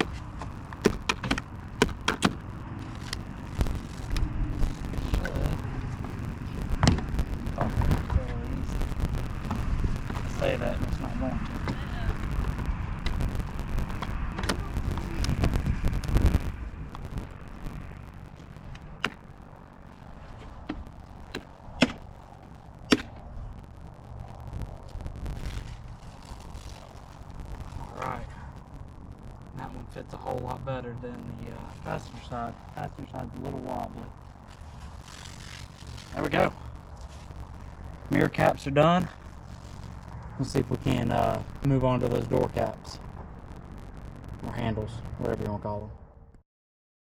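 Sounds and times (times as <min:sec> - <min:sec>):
low rumble: 0:00.0 - 0:46.4.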